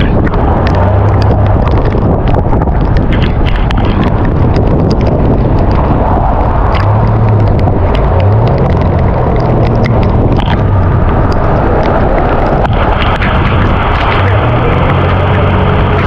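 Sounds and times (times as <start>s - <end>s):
loud steady rushing noise: 0.0s - 16.0s
sharp ticks: 0.0s - 16.0s
vehicle engine humming: 0.0s - 16.0s.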